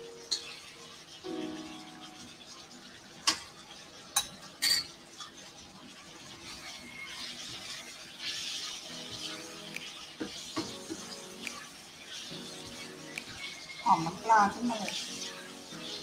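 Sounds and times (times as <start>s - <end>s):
soft sizzle: 0.0s - 16.0s.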